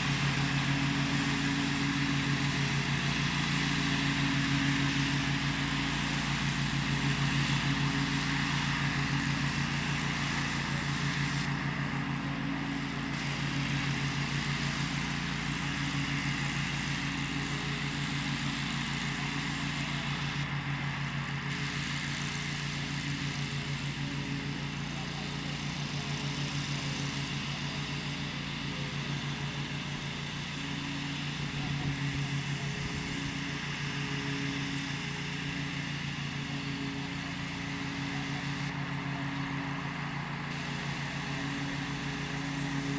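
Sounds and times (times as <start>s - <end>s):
lawn mower engine running: 0.0s - 42.9s.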